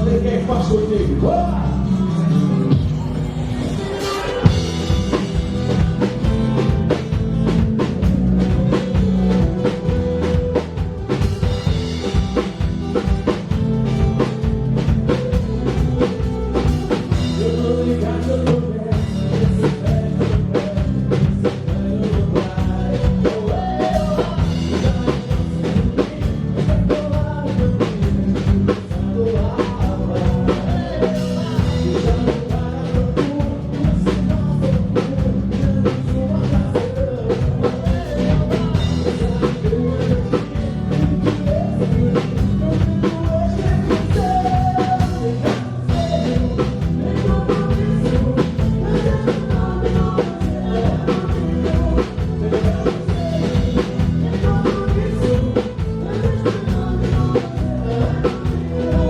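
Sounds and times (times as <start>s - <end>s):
bass line: 0.0s - 59.0s
person singing: 0.0s - 59.0s
drum kit beat: 3.9s - 59.0s.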